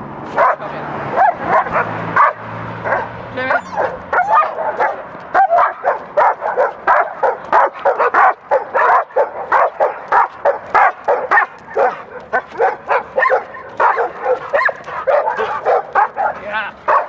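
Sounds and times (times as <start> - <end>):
dog barking: 0.3 - 17.0.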